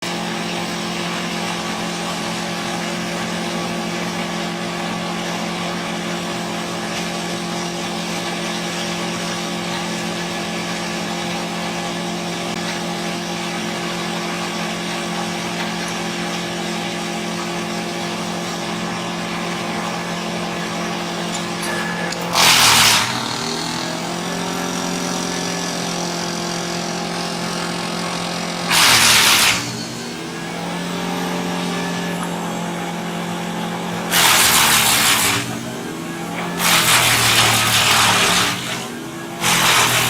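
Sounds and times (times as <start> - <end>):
engine humming steadily: 0.0 - 40.0.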